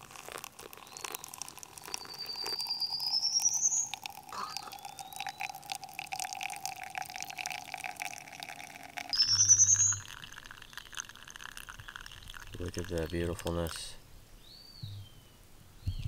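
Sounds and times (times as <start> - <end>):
rising tone of vessel filling: 0.0 - 13.0
water pouring: 0.0 - 13.9.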